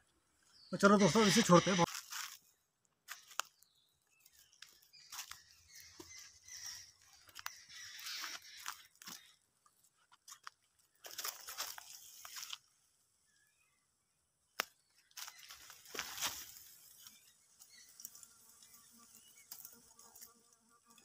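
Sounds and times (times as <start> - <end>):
leaves and twigs crunching underfoot: 0.4 - 13.3, 14.6 - 20.3.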